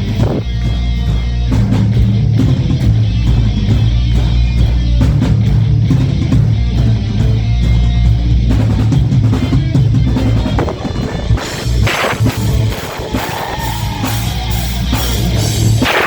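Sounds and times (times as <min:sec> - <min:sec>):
bass guitar: 0:00.0 - 0:16.0
drum kit: 0:00.0 - 0:16.0
guitars: 0:00.0 - 0:16.0.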